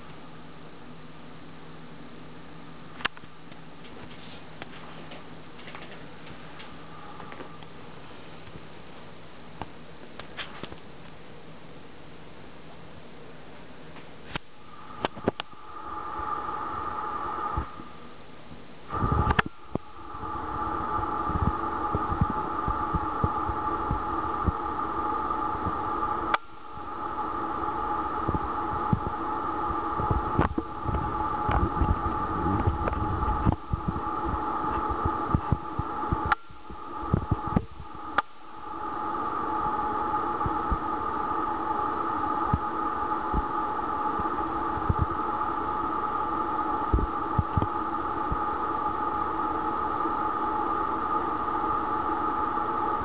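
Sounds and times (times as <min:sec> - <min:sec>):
steady mechanical hum: 0:00.0 - 0:53.0.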